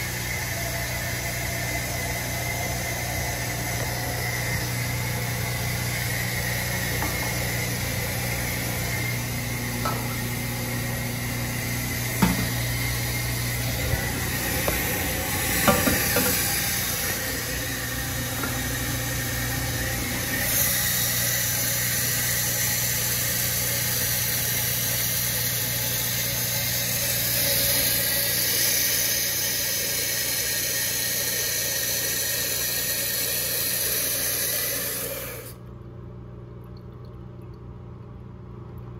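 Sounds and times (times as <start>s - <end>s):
constant low hum: 0.0s - 30.4s, 35.4s - 38.9s
toilet tank water hissing: 0.0s - 35.6s.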